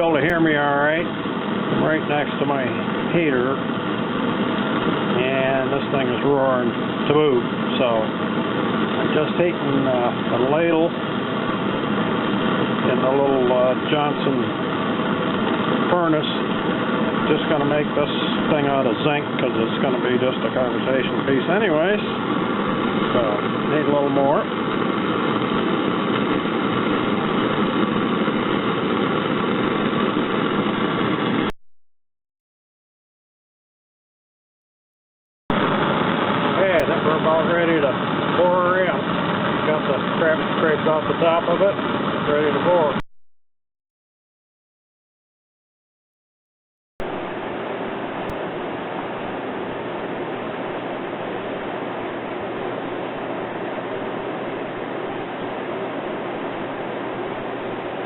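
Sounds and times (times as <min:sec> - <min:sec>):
burner roaring: 0:00.0 - 0:31.5, 0:35.5 - 0:43.0, 0:47.0 - 0:58.0.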